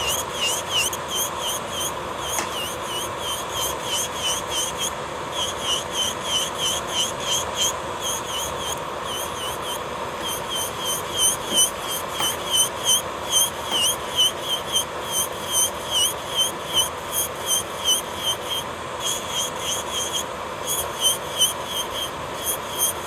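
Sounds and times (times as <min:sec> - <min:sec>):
electric nail drill whining: 0:00.0 - 0:23.0.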